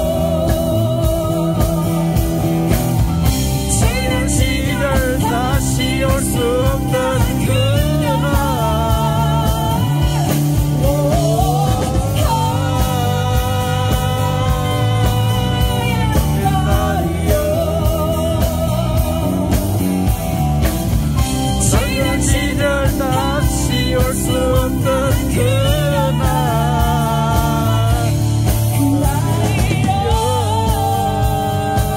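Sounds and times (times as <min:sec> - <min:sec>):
person singing with vibrato: 0:00.0 - 0:20.3, 0:21.3 - 0:31.9
live band playing: 0:00.0 - 0:31.9.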